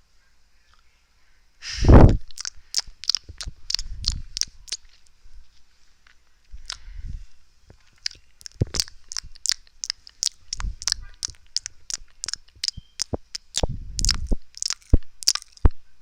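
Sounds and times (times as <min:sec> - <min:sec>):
low muffled rumbles: 0:01.6 - 0:16.0
wet mouth clicks and smacks: 0:01.9 - 0:05.2, 0:06.0 - 0:15.8.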